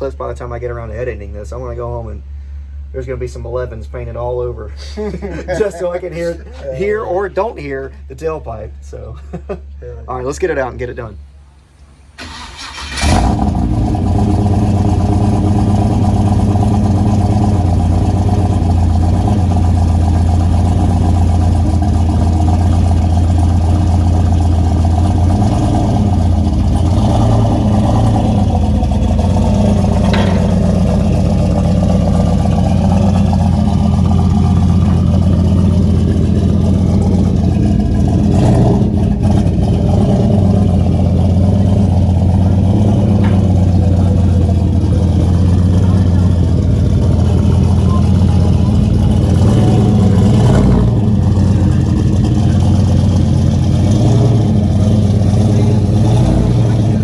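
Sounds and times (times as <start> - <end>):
engine idling: 0.0 - 9.0, 10.2 - 57.0.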